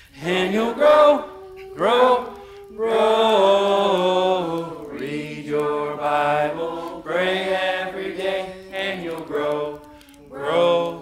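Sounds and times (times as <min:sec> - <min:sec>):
person singing long held notes: 0:00.0 - 0:11.0.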